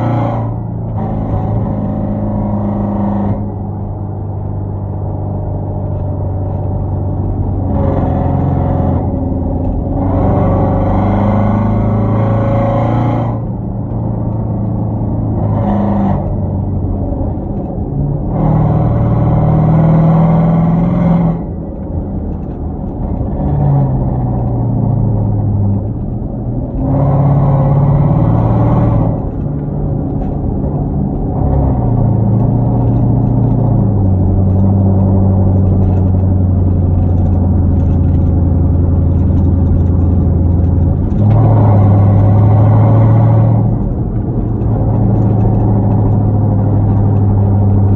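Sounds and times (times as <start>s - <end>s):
car exhaust accelerating: 0.0s - 47.9s.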